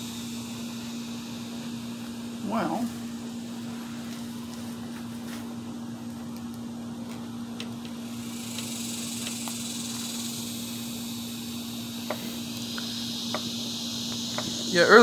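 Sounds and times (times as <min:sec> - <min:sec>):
crickets buzzing: 0:00.0 - 0:15.0
low mechanical hum: 0:00.0 - 0:15.0.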